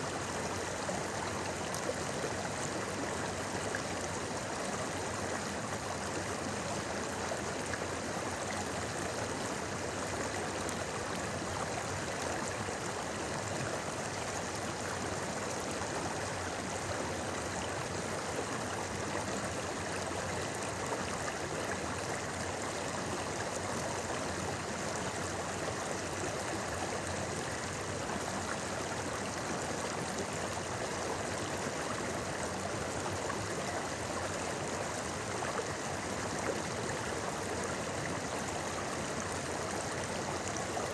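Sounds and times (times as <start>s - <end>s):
river babbling: 0.0s - 40.9s.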